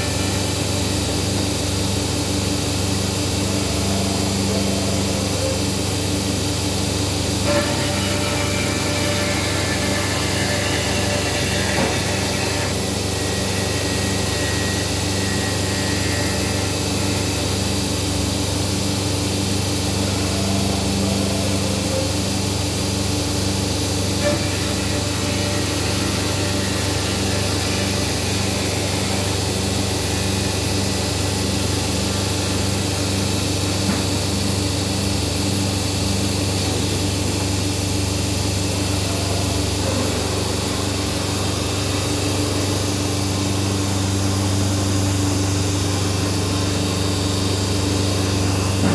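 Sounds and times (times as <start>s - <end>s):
machine hum with regular pulsing: 0.0s - 48.9s.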